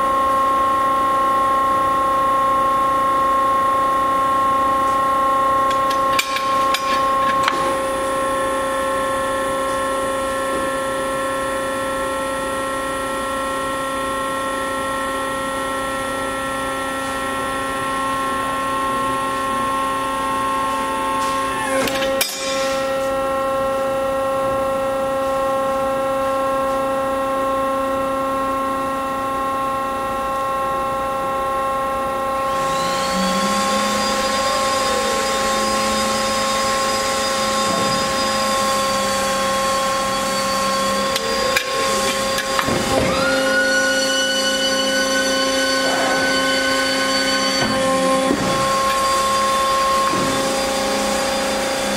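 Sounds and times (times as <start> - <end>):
hydraulic pump motor hum and whine: 0.0 - 51.9.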